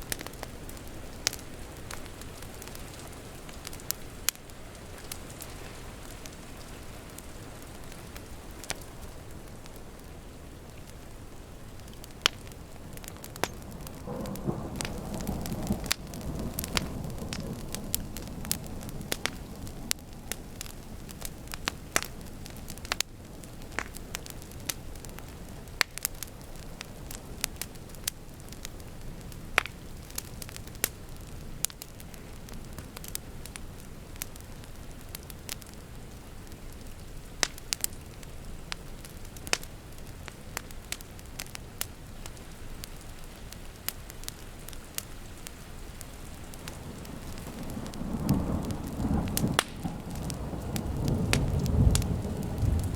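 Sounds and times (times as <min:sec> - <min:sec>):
rain rushing: 0:00.0 - 0:52.9
wood fire crackling and popping: 0:00.0 - 0:52.9.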